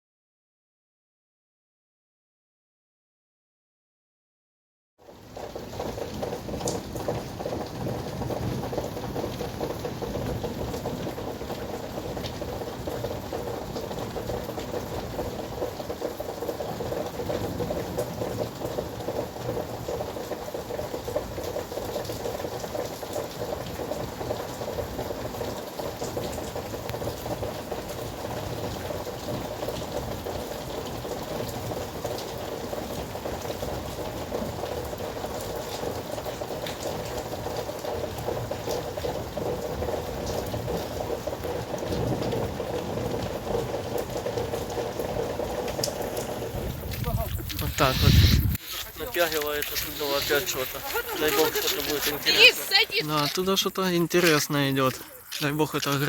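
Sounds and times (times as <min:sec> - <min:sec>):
heavy rain pattering: 0:05.0 - 0:56.0.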